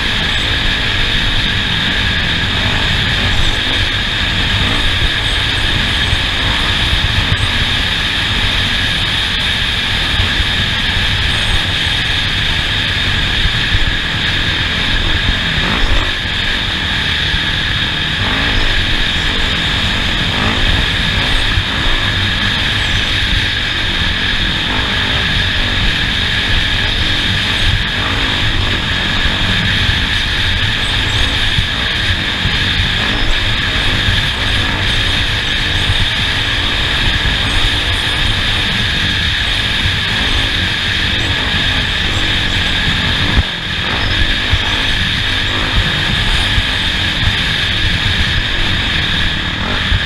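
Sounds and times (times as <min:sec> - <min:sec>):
drivetrain rumble: 0:00.0 - 0:50.0
vehicle engine running: 0:00.0 - 0:50.0
wind: 0:00.0 - 0:50.0.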